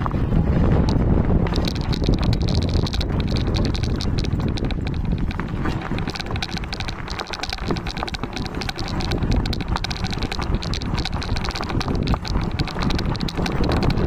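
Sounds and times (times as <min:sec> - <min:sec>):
rapid irregular clicking: 0:00.0 - 0:14.0
wind rumble on microphone: 0:00.0 - 0:14.0.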